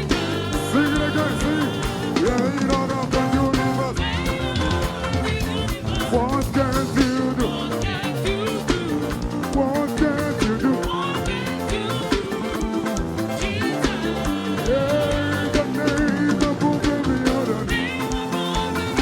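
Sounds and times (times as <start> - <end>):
drum kit beat: 0.0 - 19.0
voices singing: 0.0 - 19.0
worship band music: 0.0 - 19.0.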